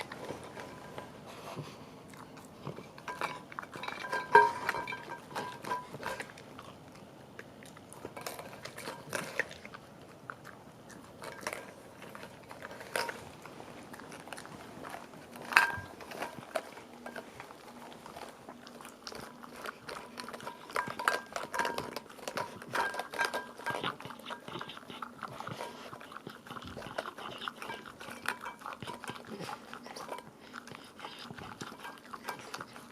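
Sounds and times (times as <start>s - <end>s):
dog chewing and crunching: 0.0s - 32.9s.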